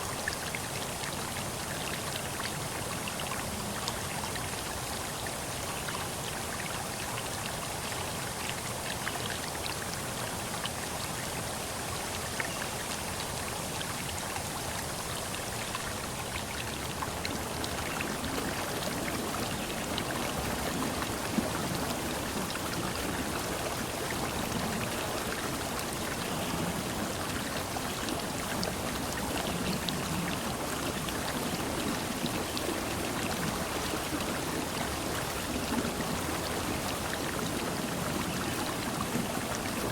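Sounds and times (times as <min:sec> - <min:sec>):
low water gurgles: 0:00.0 - 0:39.9.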